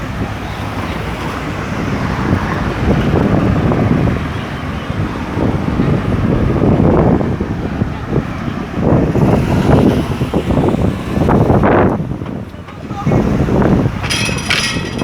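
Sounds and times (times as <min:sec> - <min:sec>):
vehicles passing: 0:00.0 - 0:15.0
wind buffeting microphone: 0:00.0 - 0:15.0.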